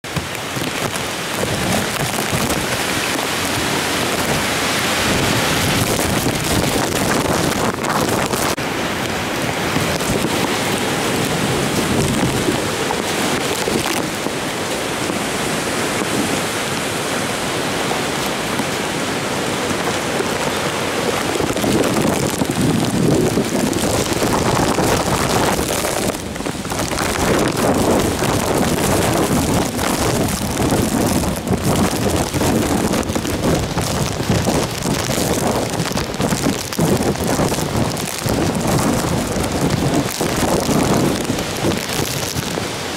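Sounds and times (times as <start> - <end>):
driving rain: 0.0 - 42.9
strong wind gusting: 0.0 - 42.9.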